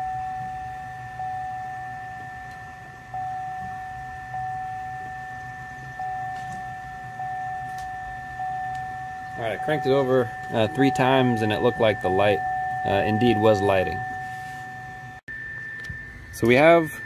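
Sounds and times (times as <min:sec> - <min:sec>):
high electronic warning tone: 0:00.0 - 0:17.0.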